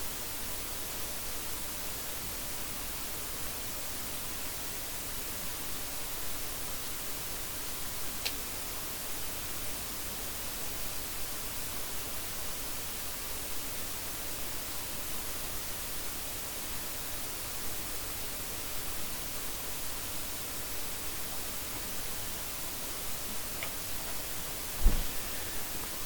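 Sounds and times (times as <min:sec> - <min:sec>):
steady static hiss: 0:00.0 - 0:26.0.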